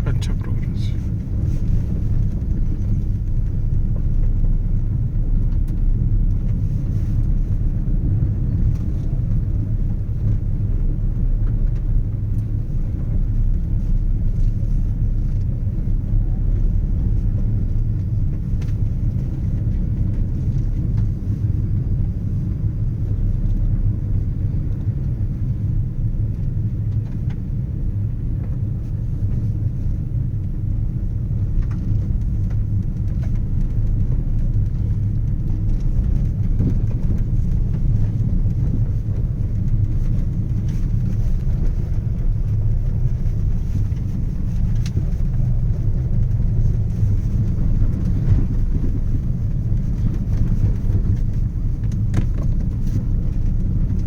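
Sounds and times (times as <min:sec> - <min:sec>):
vehicle driving rumble: 0:00.0 - 0:54.0.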